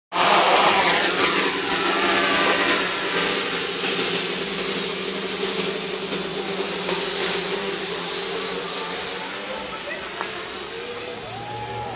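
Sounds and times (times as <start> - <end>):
drone propellers buzzing: 0.1 - 11.9
high steady whine: 0.1 - 11.9.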